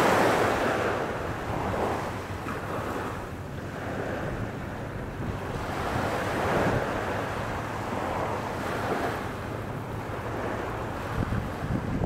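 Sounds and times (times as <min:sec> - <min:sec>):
small waves breaking on sand: 0:00.0 - 0:12.0
wind rumbling on microphone: 0:00.0 - 0:12.0.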